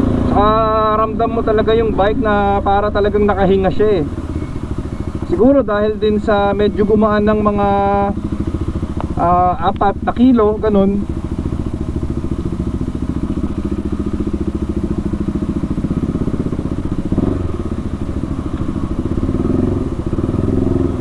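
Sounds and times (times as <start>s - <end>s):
motorcycle engine pulsing: 0.0s - 21.0s.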